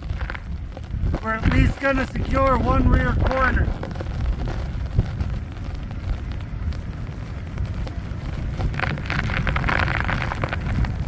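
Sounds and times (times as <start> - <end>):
tarp rustling and scraping: 0.0 - 11.0
wind buffeting microphone: 0.0 - 11.0.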